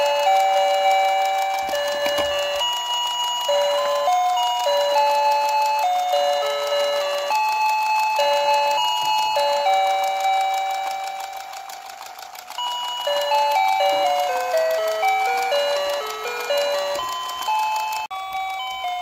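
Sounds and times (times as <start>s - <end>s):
toy playing electronic beeping tune: 0.0s - 19.0s.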